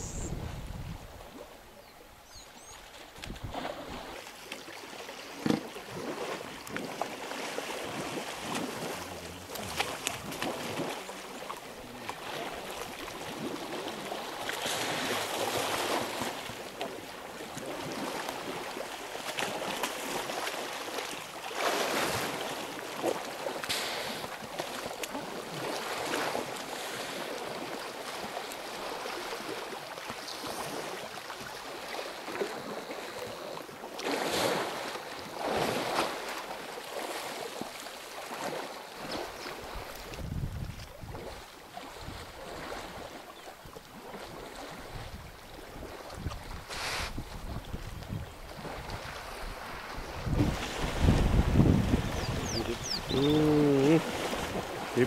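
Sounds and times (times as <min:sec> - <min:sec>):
elephants splashing through water: 0:02.8 - 0:40.3, 0:41.0 - 0:55.0.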